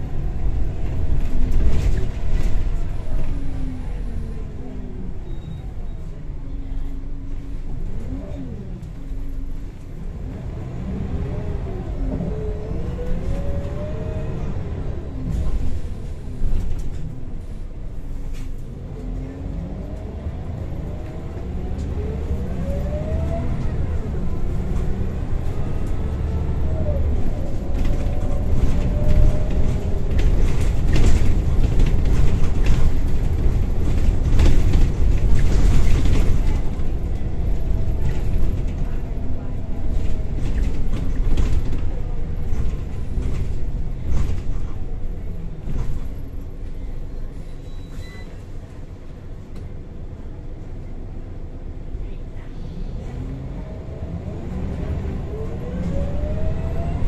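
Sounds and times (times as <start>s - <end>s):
bus engine and gearbox whine: 0.0s - 57.0s
road rumble: 0.0s - 57.0s.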